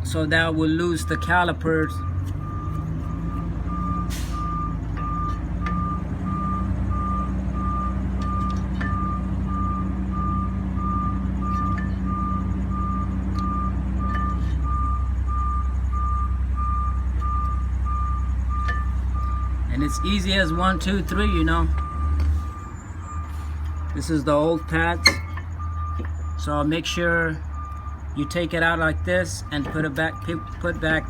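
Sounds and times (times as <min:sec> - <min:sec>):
truck engine running: 0:00.0 - 0:31.0
reversing alarm beeping: 0:00.1 - 0:31.0.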